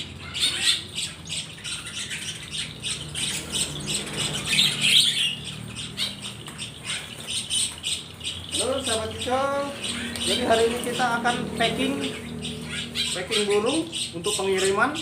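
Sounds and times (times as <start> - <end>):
small birds chirping and squawking: 0.0 - 15.0.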